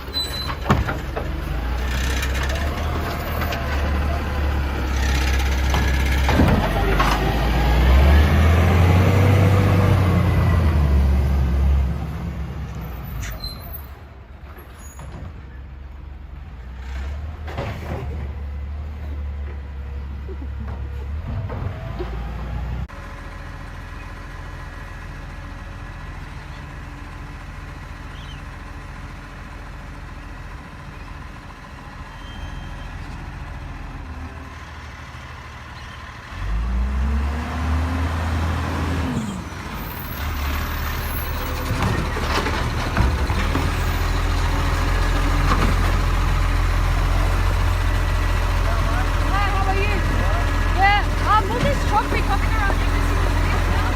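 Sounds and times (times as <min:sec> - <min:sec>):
diesel truck engine revving: 0:00.0 - 0:14.4, 0:16.0 - 0:53.9.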